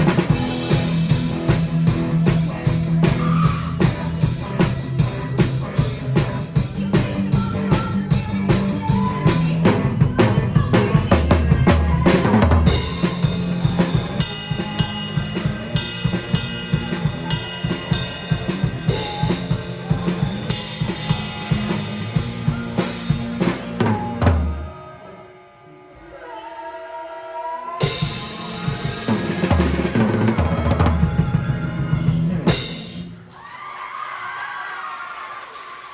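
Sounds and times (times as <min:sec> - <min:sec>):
drum kit played fast: 0:00.0 - 0:24.6, 0:27.8 - 0:33.3
rock band sustained notes: 0:00.0 - 0:25.9, 0:27.8 - 0:33.3.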